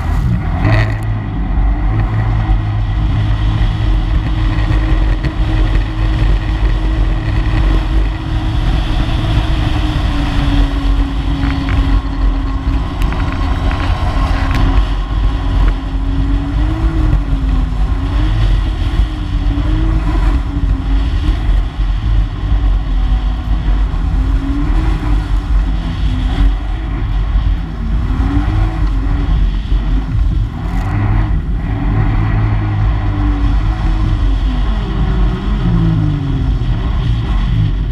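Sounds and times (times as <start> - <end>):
watercraft engine running: 0.0 - 37.9
wind buffeting on microphone: 0.0 - 37.9.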